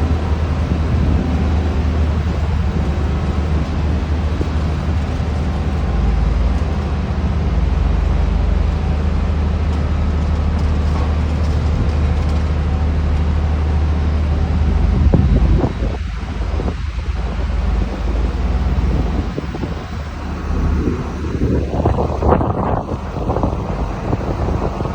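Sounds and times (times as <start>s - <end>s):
heavy machinery engine rumble: 0.0s - 24.9s.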